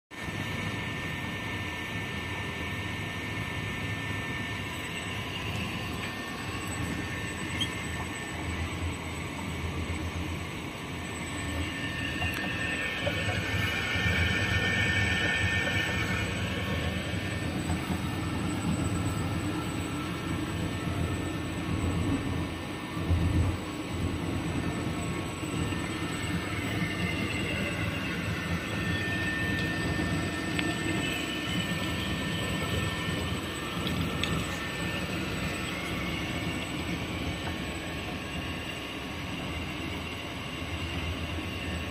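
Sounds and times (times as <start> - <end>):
high whine: 0.2 - 41.9
machine motor hum: 0.2 - 41.9.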